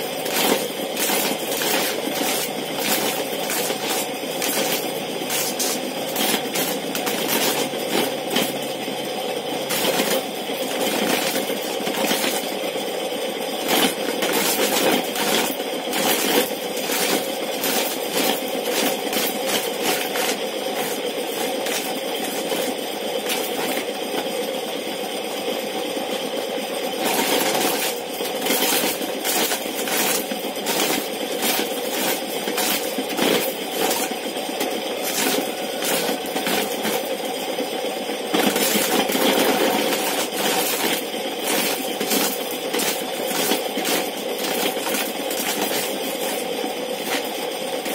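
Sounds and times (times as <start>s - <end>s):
corn kernels rattling and pattering: 0.0s - 8.8s, 9.6s - 24.4s, 26.9s - 47.9s.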